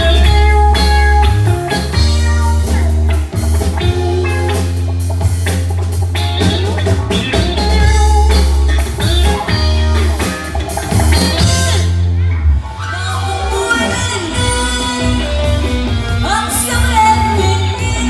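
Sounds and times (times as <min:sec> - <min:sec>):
drum kit: 0:00.0 - 0:18.0
guitar: 0:00.0 - 0:18.0
steady bass line: 0:00.0 - 0:18.0.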